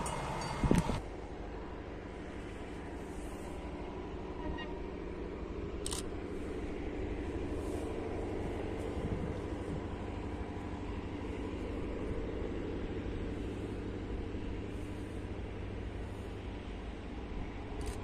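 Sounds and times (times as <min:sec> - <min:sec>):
locomotive engine humming: 0:00.0 - 0:18.0.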